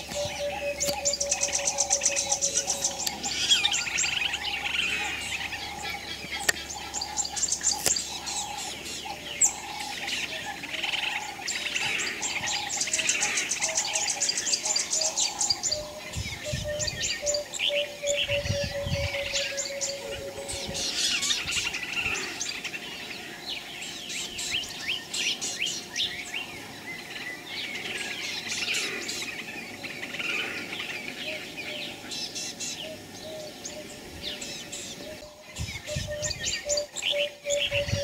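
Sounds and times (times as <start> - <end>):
birds chirping and trilling: 0.0 - 38.0.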